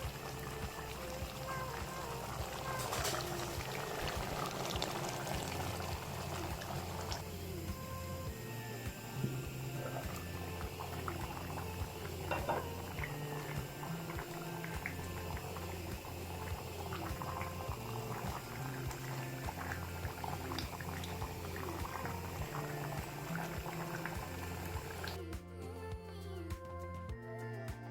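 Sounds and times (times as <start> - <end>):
curry bubbling and spitting: 0.0 - 7.4, 9.7 - 25.2
background music with bass line: 0.0 - 27.9.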